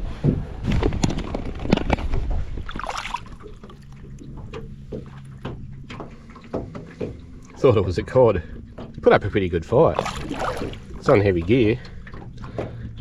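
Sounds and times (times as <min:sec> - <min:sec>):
knocks and handling on boat: 0:00.0 - 0:13.0
low steady motor hum: 0:02.5 - 0:13.0.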